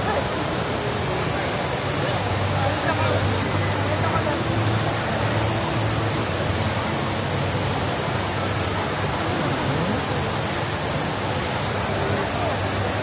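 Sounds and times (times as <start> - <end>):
indoor waterfall rushing: 0.0 - 13.0.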